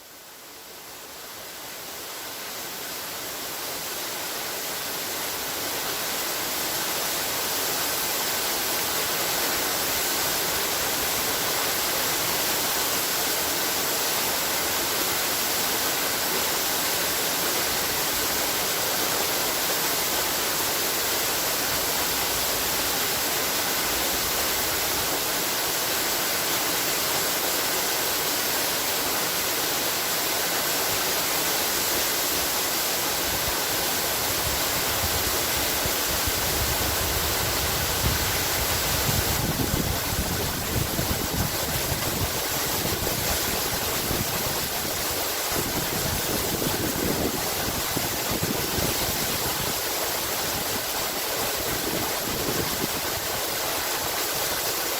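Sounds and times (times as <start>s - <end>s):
waterfall rushing: 0.1s - 54.9s.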